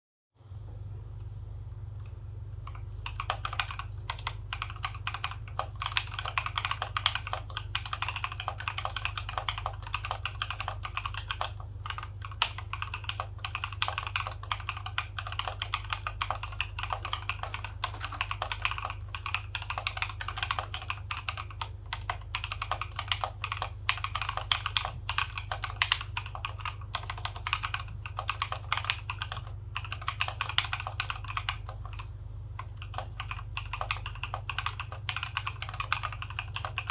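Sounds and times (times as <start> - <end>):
steady low hum: 0.4 - 36.9
mechanical keyboard typing: 2.6 - 36.9.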